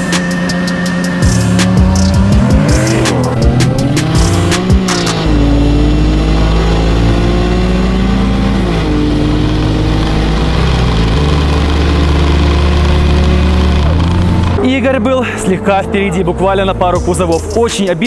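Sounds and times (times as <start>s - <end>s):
car engine at full throttle: 0.0s - 17.7s.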